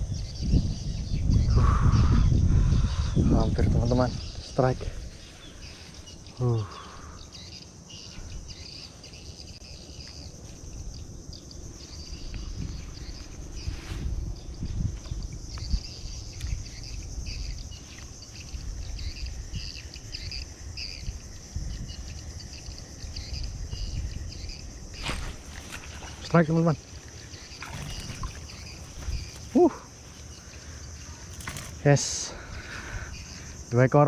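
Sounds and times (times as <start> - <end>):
insects chirping in trills: 0.0 - 34.0.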